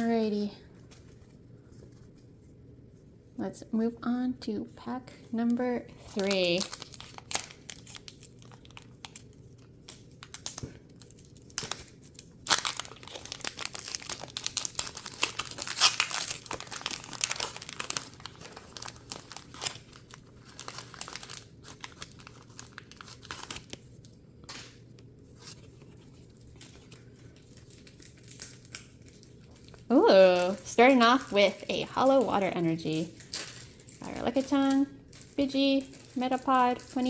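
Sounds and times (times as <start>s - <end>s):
foil wrapper tearing and crinkling: 5.6s - 24.8s, 25.4s - 37.0s.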